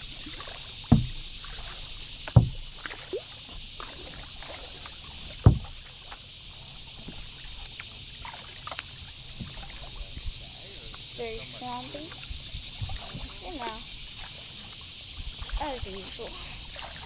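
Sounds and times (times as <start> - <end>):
paddle knocking plastic hull: 0.0 - 6.2, 7.0 - 10.3, 10.9 - 17.0
steady high-pitched hiss: 0.0 - 17.0
water drips: 0.0 - 17.0.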